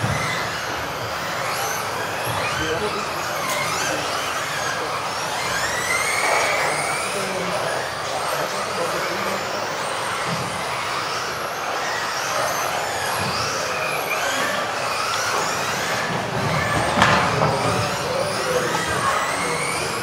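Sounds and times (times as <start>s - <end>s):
electric rc cars whining: 0.0s - 20.0s.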